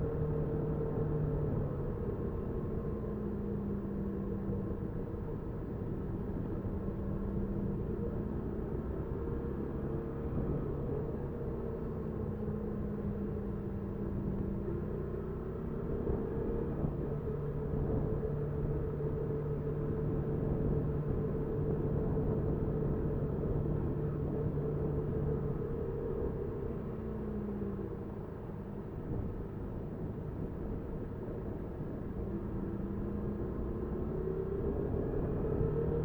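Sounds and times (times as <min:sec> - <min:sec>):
wind and road rumble: 0:00.0 - 0:36.0.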